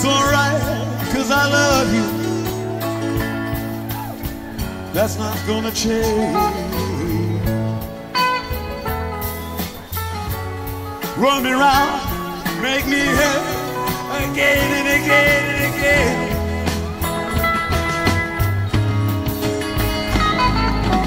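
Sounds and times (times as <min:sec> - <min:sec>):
electric guitar with vibrato: 0:00.0 - 0:21.0
rock band playing: 0:00.0 - 0:21.0.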